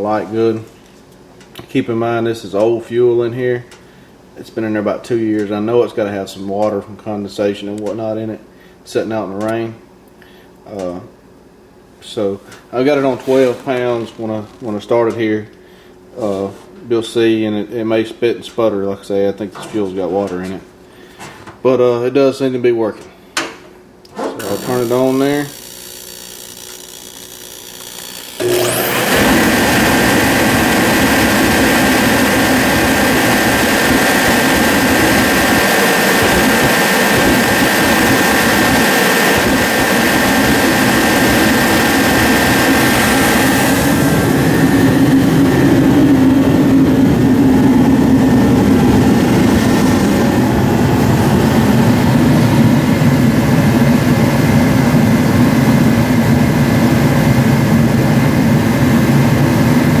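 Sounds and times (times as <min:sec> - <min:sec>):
kerosene heater roaring: 0:00.0 - 1:00.0.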